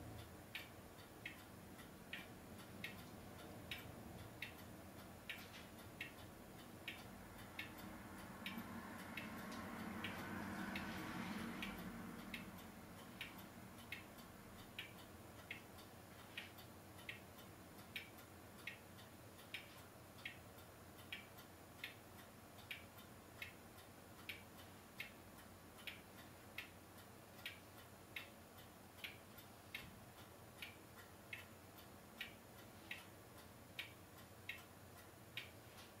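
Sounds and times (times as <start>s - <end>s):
faint ticking: 0.0s - 36.0s
low hiss: 0.0s - 36.0s.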